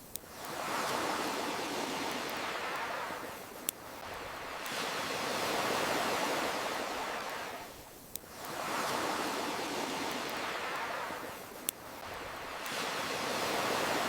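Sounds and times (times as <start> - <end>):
campfire crackle: 0.0 - 14.0
ocean waves washing in: 0.2 - 14.0.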